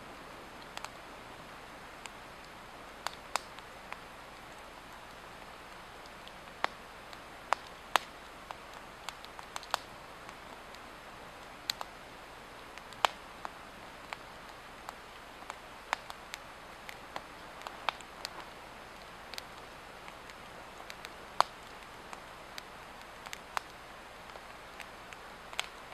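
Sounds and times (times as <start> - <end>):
burning wood crackling and popping: 0.2 - 25.9
fire hissing: 0.2 - 25.9.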